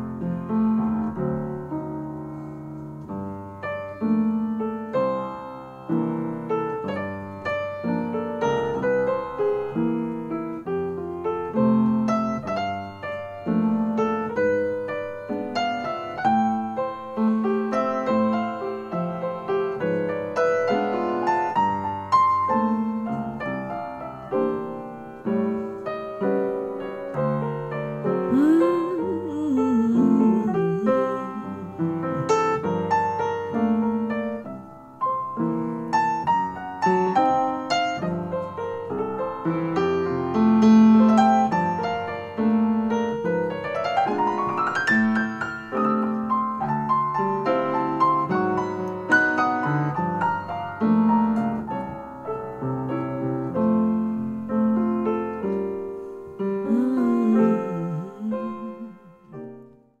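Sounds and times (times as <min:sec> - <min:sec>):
piano music: 0:00.0 - 1:00.0.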